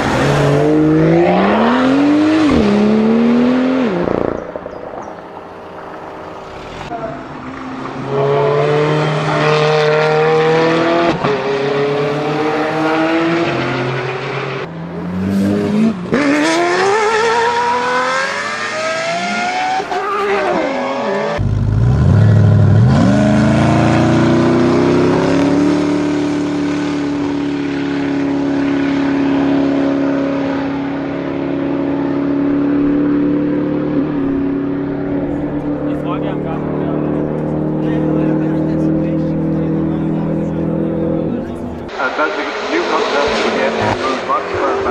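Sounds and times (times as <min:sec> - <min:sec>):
car engines revving hard: 0:00.0 - 0:44.9.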